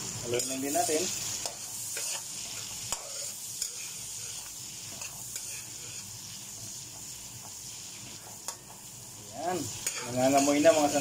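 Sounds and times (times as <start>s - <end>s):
vegetables sizzling in a wok: 0.0s - 11.0s
spatula scraping a pan: 0.3s - 8.6s, 9.7s - 11.0s.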